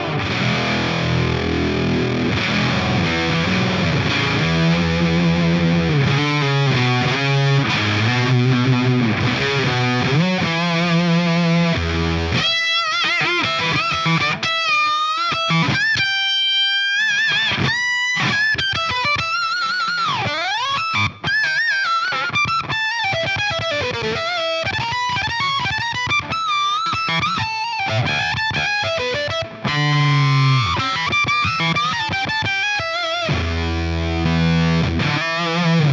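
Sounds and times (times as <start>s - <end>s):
electric guitar lead with bends: 0.0s - 35.9s
fuzz electric guitar riff: 0.0s - 35.9s.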